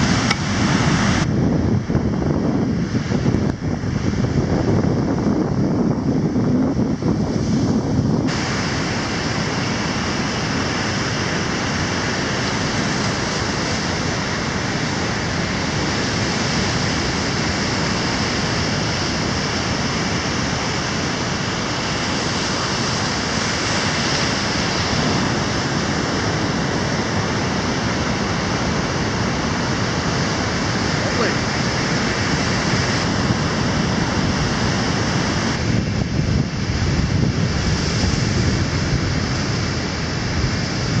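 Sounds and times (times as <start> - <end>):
ocean surf breaking on beach: 0.0 - 41.0.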